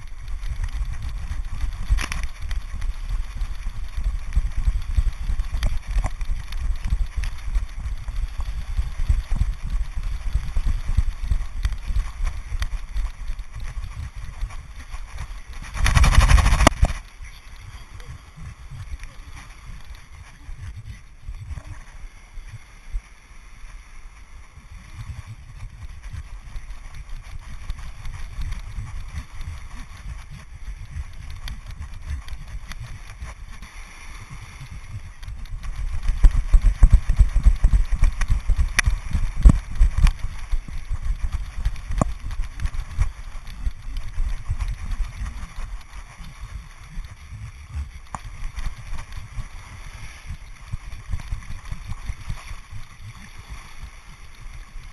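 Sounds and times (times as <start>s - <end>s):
wind on microphone: 0.0s - 54.9s.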